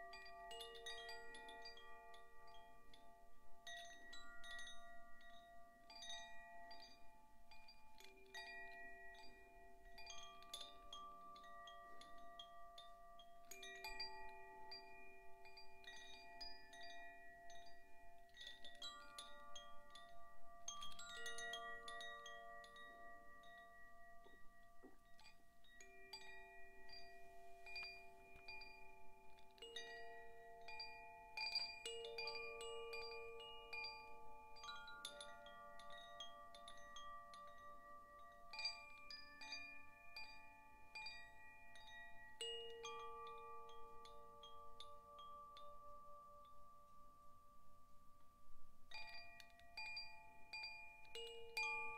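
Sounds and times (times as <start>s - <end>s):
wind chime ringing: 0.0s - 51.9s.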